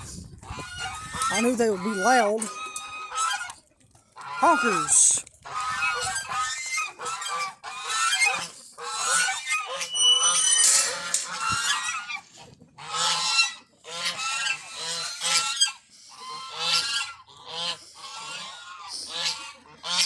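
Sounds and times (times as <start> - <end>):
geese honking: 0.4 - 3.6, 4.2 - 20.0.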